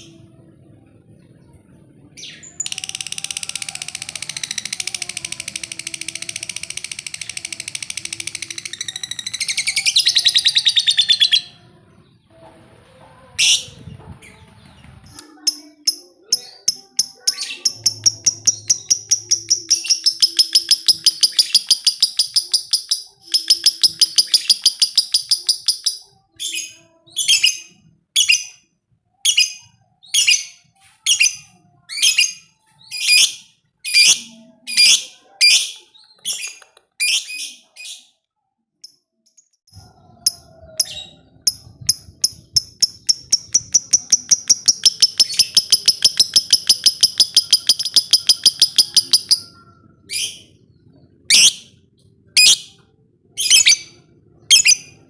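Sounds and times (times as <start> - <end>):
lovebird chirping chatter: 2.2 - 12.2, 13.4 - 28.6, 29.2 - 38.2, 38.8 - 55.0.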